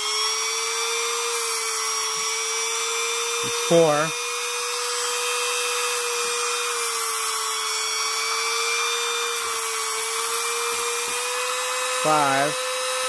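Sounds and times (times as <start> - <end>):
rotary tool motor running: 0.0 - 13.0.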